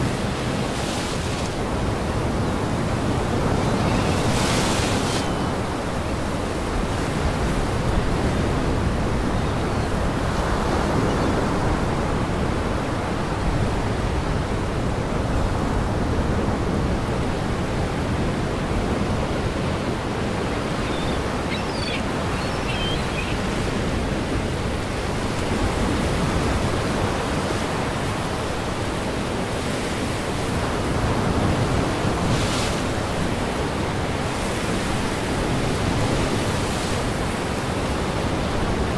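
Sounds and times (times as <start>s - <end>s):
gale wind: 0.0s - 38.9s
waves breaking on shore: 0.0s - 38.9s.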